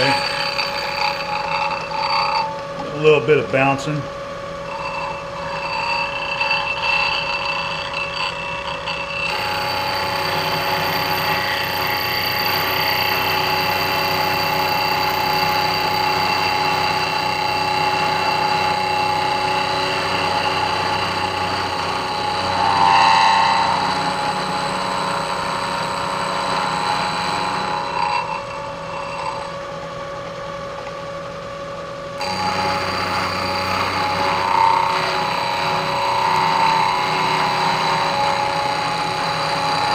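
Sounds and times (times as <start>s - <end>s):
end mill cutting metal: 0.0s - 2.6s, 4.6s - 29.8s, 32.2s - 39.9s
milling spindle whine: 0.0s - 30.4s, 32.2s - 39.9s.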